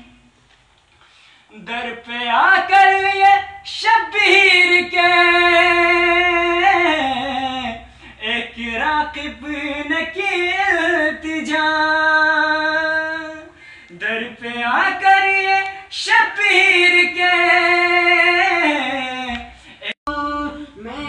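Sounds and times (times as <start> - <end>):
man singing unaccompanied: 1.5 - 21.0.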